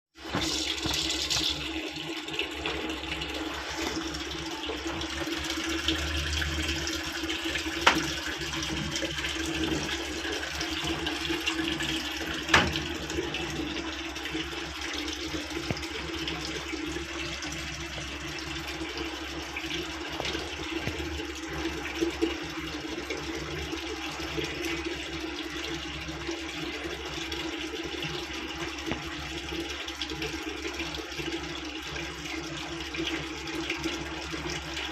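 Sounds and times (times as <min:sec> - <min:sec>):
water running into washing machine: 0:00.2 - 0:34.9.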